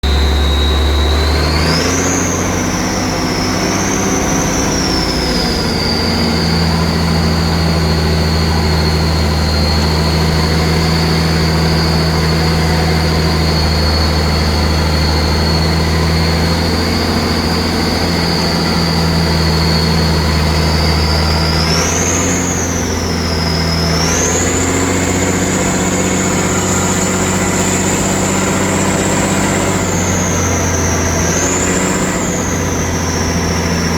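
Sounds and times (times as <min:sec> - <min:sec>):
truck engine drone: 0:00.0 - 0:33.9
turbocharger whistling whine: 0:00.0 - 0:33.9.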